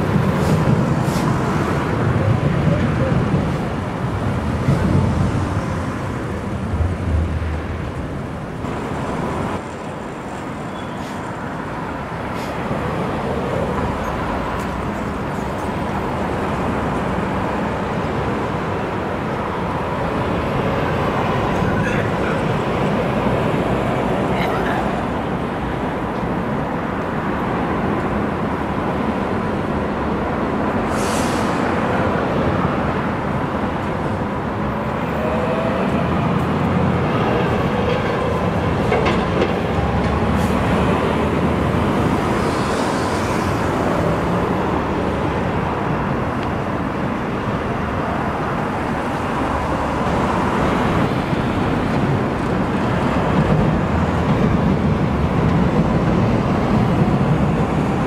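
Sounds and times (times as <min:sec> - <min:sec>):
electric trains on bridge: 0:00.0 - 0:58.0
road traffic passing: 0:00.0 - 0:58.0.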